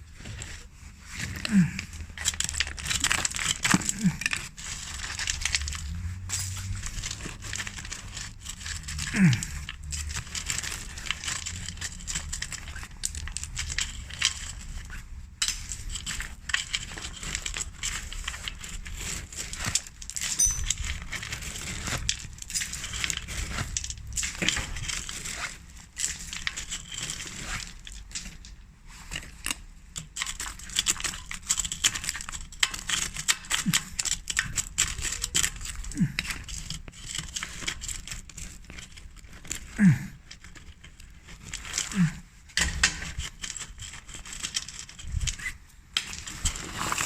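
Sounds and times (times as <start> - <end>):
concrete rubble crunching underfoot: 0.0 - 47.0.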